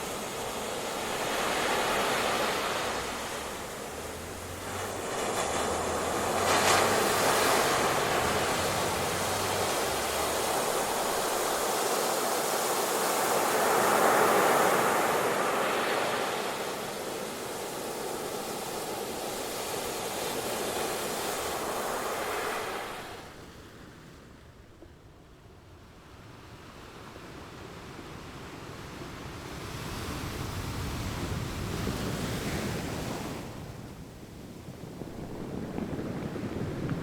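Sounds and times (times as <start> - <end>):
waves breaking on shore: 0.0 - 24.5, 27.2 - 37.0.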